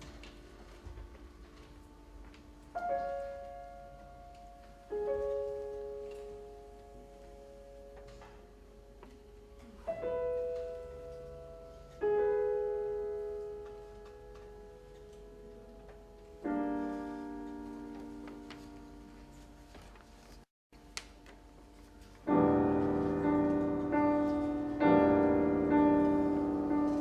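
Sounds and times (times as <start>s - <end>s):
piano chords ringing: 0.0s - 20.4s, 21.5s - 27.0s.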